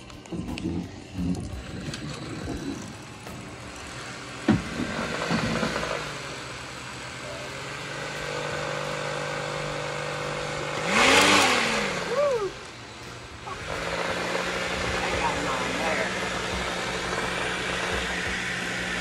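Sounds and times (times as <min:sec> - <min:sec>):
small electric motor humming and revving: 0:00.0 - 0:19.0.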